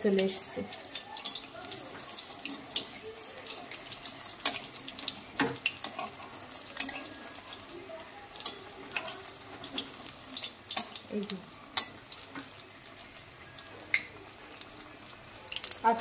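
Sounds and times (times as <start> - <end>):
deep-frying sizzle: 0.0 - 16.0.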